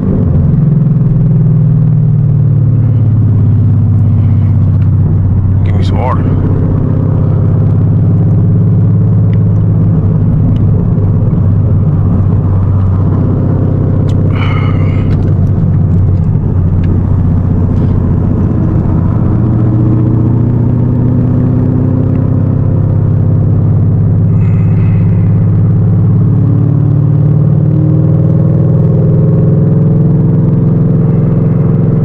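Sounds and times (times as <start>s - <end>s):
car engine low drone: 0.0s - 32.0s.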